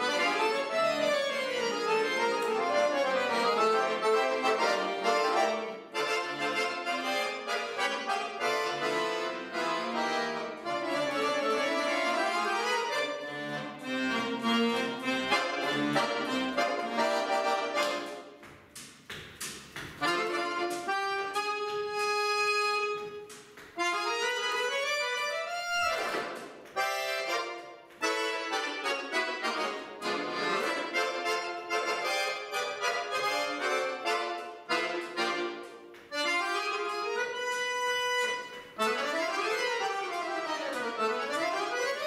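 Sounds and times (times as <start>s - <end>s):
piano accordion playing: 0.0s - 18.5s, 19.9s - 42.0s.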